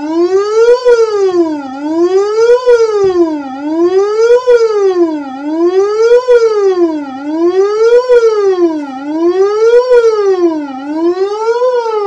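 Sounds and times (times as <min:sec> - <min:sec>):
electronic siren tone sweeping: 0:00.0 - 0:12.0.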